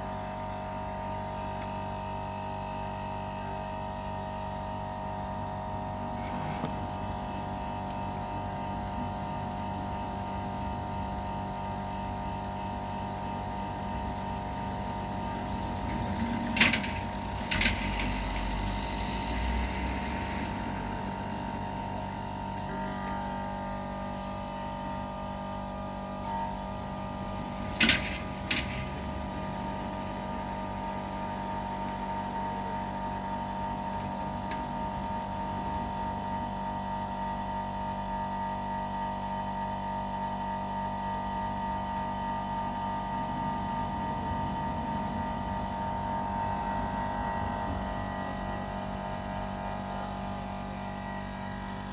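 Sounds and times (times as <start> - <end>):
air compressor humming: 0.0 - 51.9.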